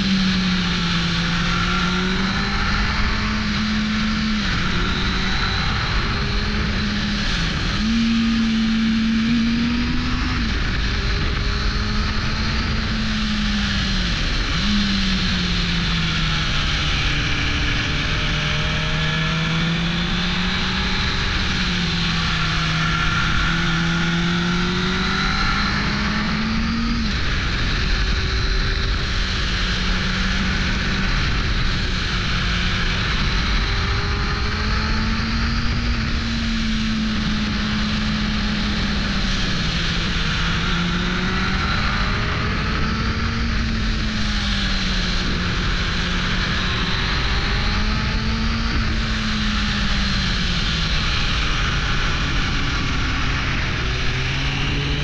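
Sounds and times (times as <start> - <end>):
motorcycle engine under way: 0.0 - 55.0
wind rush on microphone: 0.0 - 55.0.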